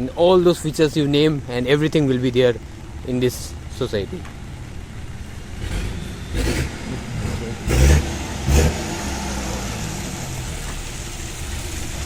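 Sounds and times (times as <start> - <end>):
engine and traffic rumble: 0.0 - 12.0.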